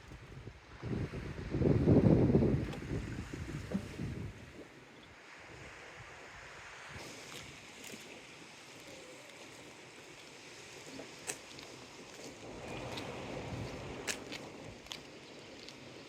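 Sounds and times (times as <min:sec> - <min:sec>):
sea water: 0:00.0 - 0:16.0
wind: 0:00.0 - 0:16.0.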